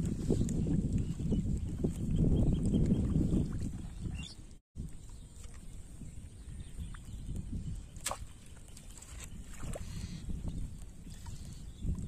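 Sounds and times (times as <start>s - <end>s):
steps sloshing through water: 0.0s - 6.0s, 6.9s - 12.0s
wind rumbling on microphone: 0.0s - 12.0s.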